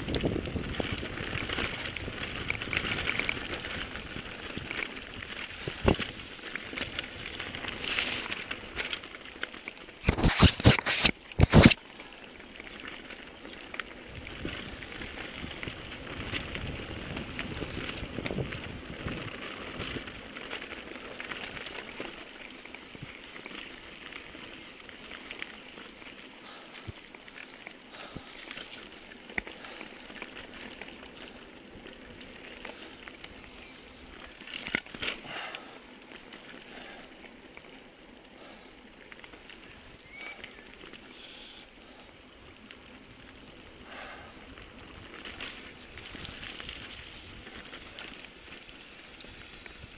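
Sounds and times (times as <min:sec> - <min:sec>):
bike rattling: 0:00.0 - 0:49.9
tyres crackling over stones: 0:00.0 - 0:49.9.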